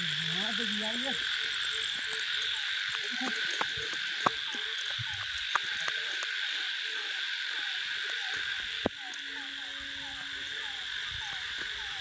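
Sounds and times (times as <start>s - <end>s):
frogs calling: 0.0s - 12.0s
insects buzzing: 0.0s - 12.0s.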